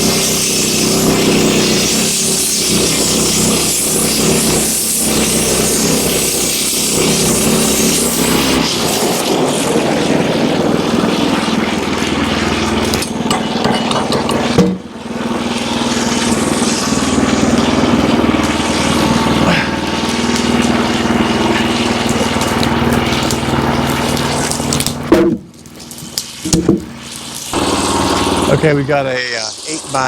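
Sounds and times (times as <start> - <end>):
band sawmill sawing wood: 0.0 - 30.0.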